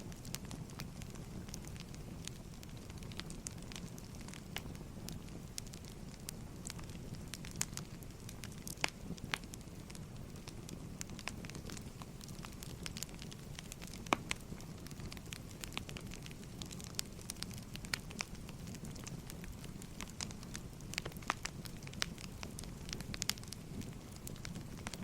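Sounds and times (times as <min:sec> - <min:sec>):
firewood crackling and popping: 0:00.0 - 0:25.0
low fire rumble: 0:00.0 - 0:25.0.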